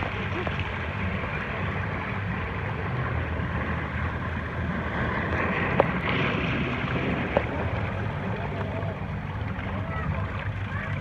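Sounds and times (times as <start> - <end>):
rushing splashing water: 0.0 - 11.0.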